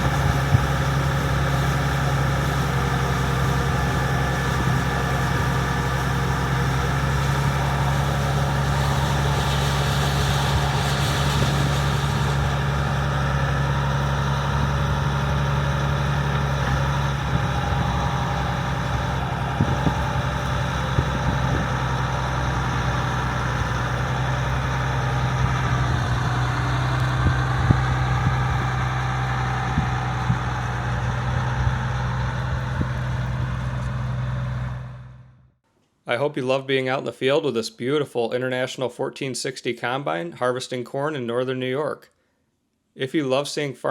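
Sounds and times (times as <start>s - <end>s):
machinery whines: 0.0s - 35.4s
diesel engine drone: 0.0s - 35.6s.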